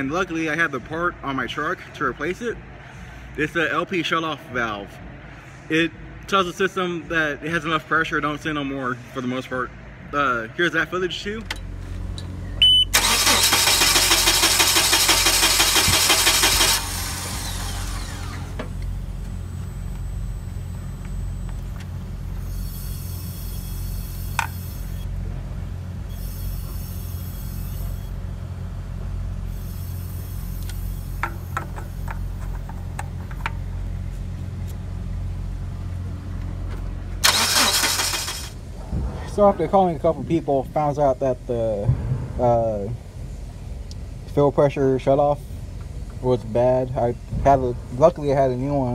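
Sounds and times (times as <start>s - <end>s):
engine idling with low hum: 7.2s - 48.9s.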